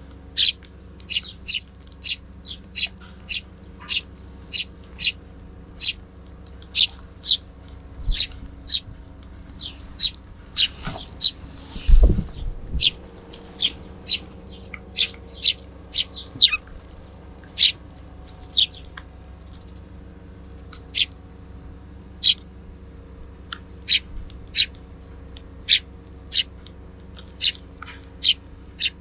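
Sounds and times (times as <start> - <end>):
faint steady hum: 0.0 - 29.0
sparrows chirping: 0.0 - 29.0.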